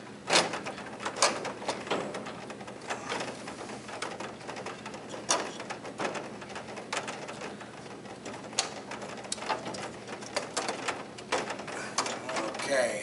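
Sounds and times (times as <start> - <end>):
door panel clicking and knocking: 0.2 - 12.7.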